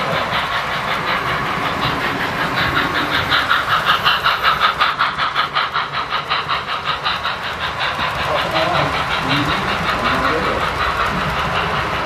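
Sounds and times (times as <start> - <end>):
model train rhythmic clicking: 0.0 - 12.0.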